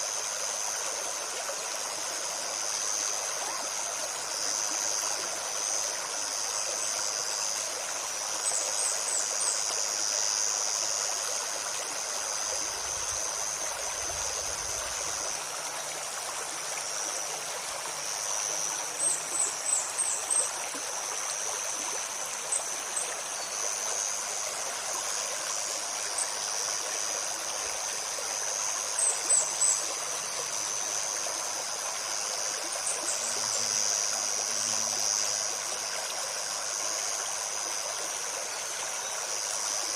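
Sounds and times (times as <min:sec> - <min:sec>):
high-pitched insect buzz: 0:00.0 - 0:39.9
stream babbling: 0:00.0 - 0:39.9.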